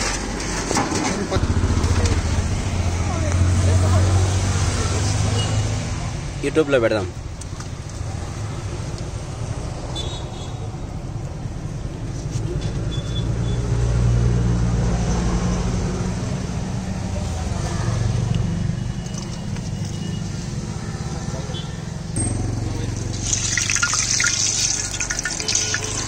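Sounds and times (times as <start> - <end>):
vehicle engine rumbling: 0.0 - 10.0, 10.6 - 26.0.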